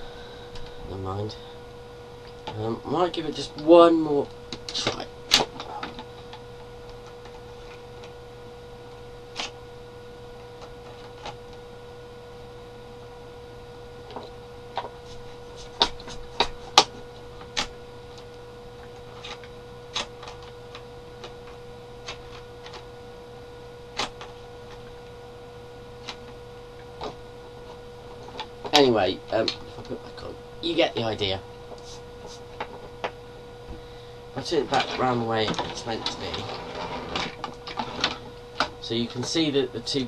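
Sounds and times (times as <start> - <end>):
faint electrical hum: 0.0 - 40.0.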